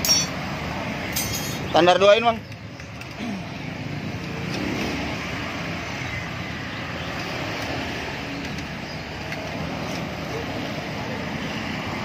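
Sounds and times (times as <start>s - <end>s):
motorbikes passing: 0.0s - 12.0s.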